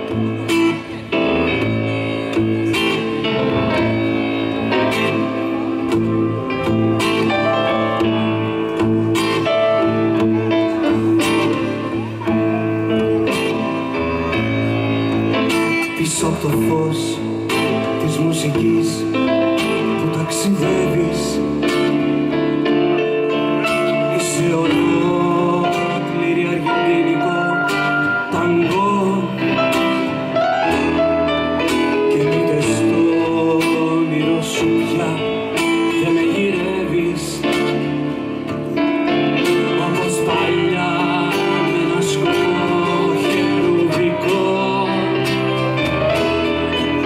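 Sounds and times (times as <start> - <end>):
acoustic-electric guitar: 0.0 - 47.0
keyboard: 0.0 - 47.0
person singing: 0.0 - 47.0.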